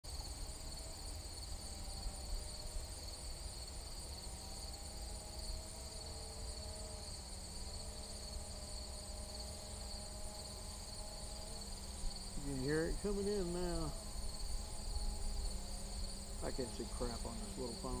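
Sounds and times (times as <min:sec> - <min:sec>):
insects chirping: 0:00.0 - 0:18.0
drone propellers humming: 0:00.2 - 0:18.0.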